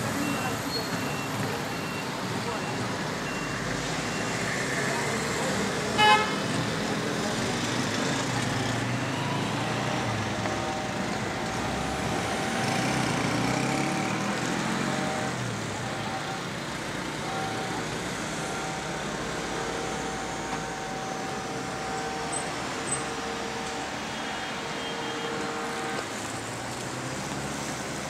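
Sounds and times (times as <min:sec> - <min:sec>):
heavy engine rumble: 0:00.0 - 0:28.0
passing vehicles: 0:00.0 - 0:28.0.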